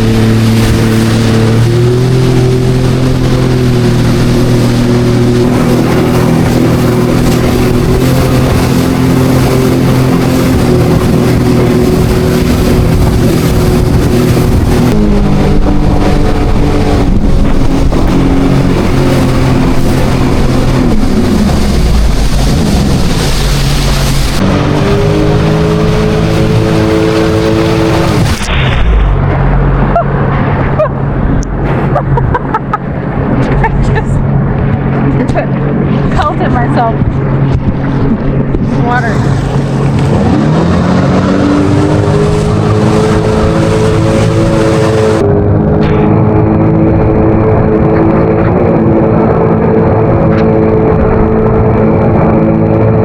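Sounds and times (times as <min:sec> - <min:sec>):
jet ski engine running: 0:00.0 - 0:53.0
water rushing: 0:00.0 - 0:53.0
wind: 0:00.0 - 0:53.0.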